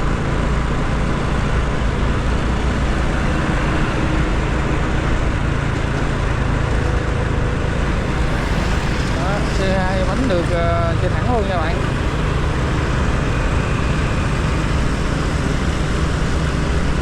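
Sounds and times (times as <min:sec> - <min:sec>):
motorcycle engine and wind rush: 0:00.0 - 0:17.0
surrounding traffic: 0:00.0 - 0:17.0.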